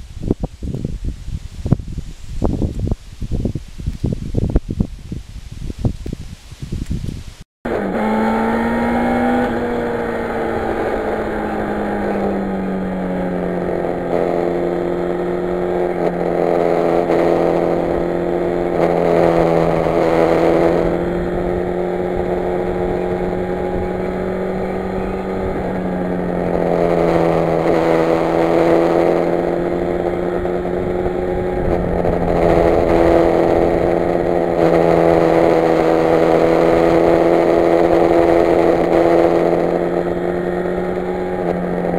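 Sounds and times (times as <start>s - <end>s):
motorcycle engine cruising: 6.8s - 41.9s.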